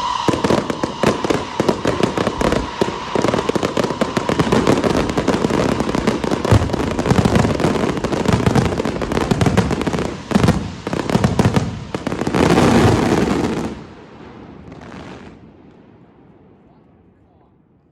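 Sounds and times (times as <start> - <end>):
fireworks bangs and crackles: 0.0 - 17.2.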